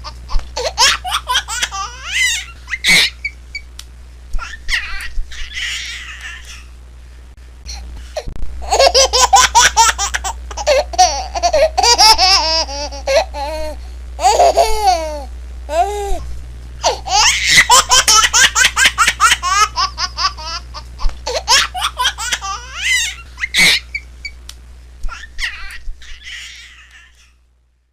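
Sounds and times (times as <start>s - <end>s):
baby laughing: 0.0s - 3.4s, 4.4s - 6.7s, 8.6s - 16.2s, 16.8s - 24.1s, 25.1s - 27.3s.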